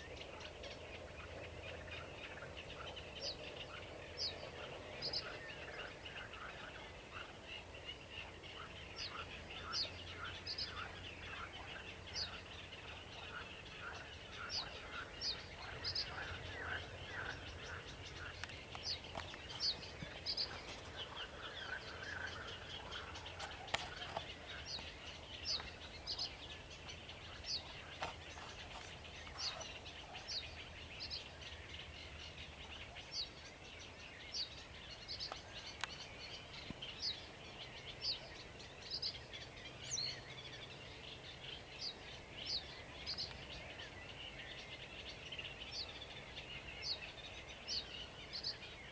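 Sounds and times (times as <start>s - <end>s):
birds singing chattering notes: 0.2s - 48.9s.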